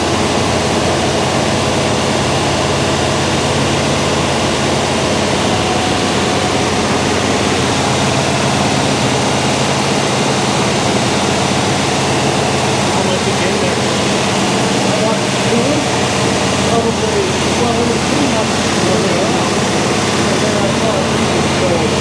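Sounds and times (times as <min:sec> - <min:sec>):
loud car engine running: 0:00.0 - 0:22.0.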